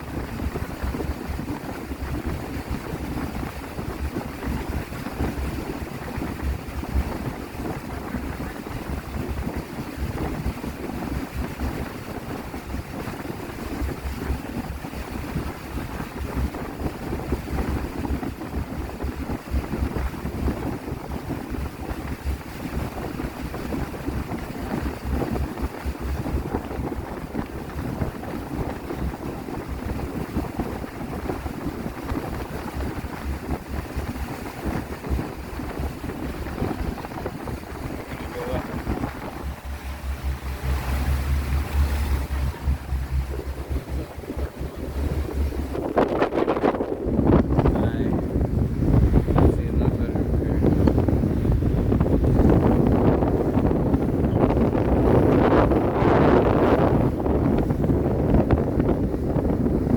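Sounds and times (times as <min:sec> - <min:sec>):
boat engine running: 0:00.0 - 0:59.9
water rushing: 0:00.0 - 0:59.9
wind gusting on microphone: 0:00.0 - 0:59.9.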